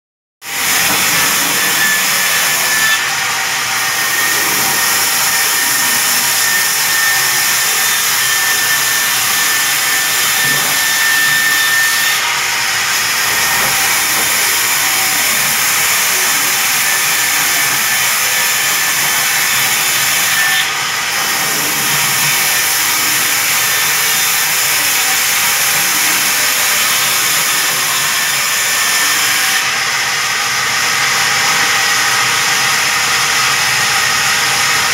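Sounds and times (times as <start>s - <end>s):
band saw cutting wood: 0.4s - 34.9s.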